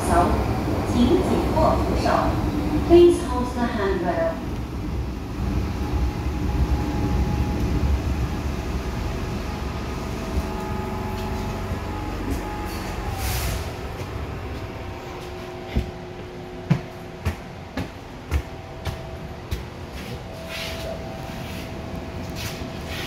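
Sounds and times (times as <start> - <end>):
train rumble with motor tones: 0.0 - 23.0.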